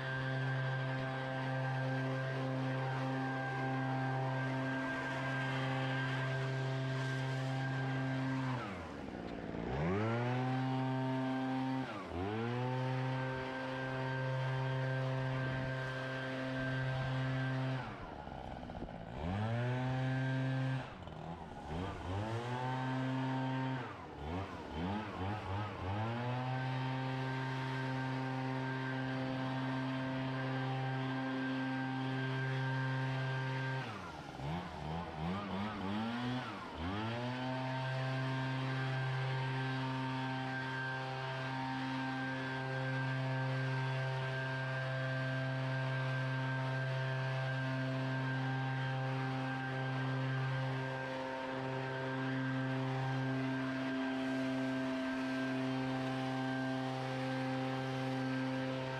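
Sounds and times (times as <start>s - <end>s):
small gas engine revving: 0.0s - 58.9s.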